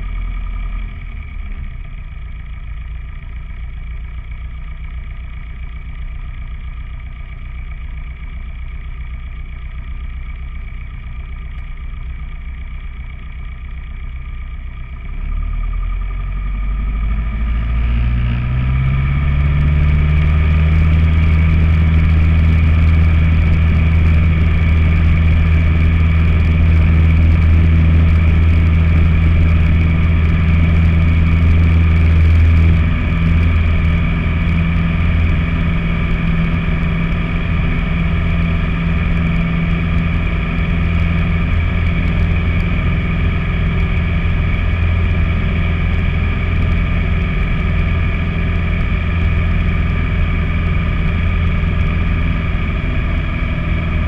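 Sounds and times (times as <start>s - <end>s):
propeller plane engine drone: 0.0s - 54.0s.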